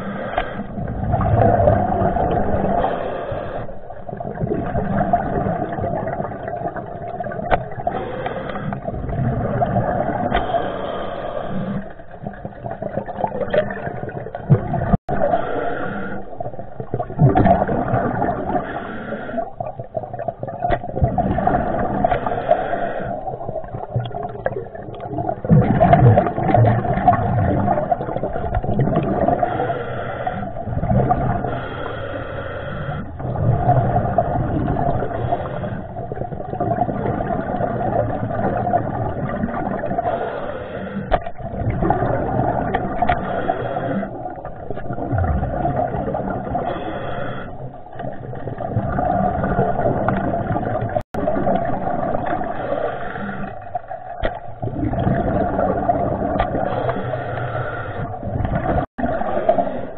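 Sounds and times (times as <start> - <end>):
muffled underwater rushing: 0.0 - 59.9.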